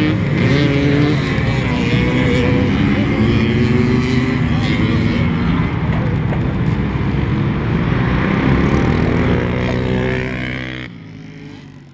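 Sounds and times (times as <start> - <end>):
motorcycle engine running hard: 0.0 - 11.9.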